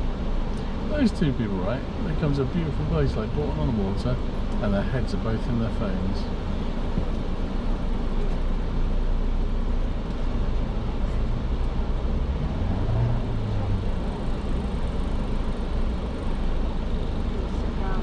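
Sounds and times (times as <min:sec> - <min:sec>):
car cabin engine and tyre rumble: 0:00.0 - 0:18.0.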